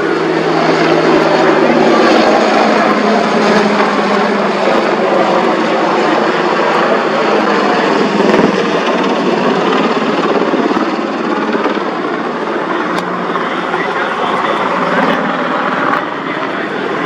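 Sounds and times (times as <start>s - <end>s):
helicopter flying: 0.0s - 17.0s.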